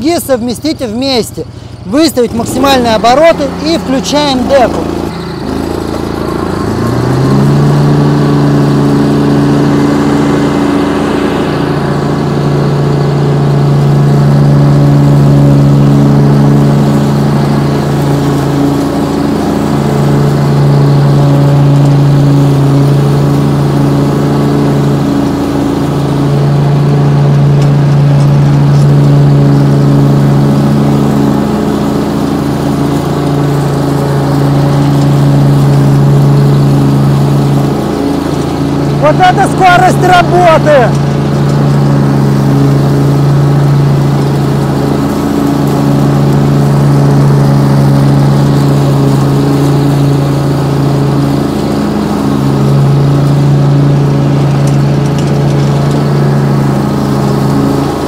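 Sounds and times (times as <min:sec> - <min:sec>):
ride-on mower engine droning: 0:00.0 - 0:58.0.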